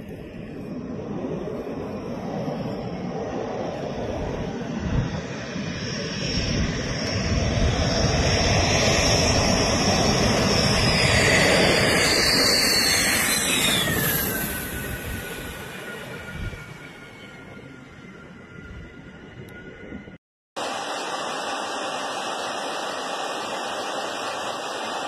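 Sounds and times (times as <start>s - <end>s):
fighter jet rumble passing by: 0.0s - 20.2s
high jet whine dropping in pitch: 0.0s - 25.0s.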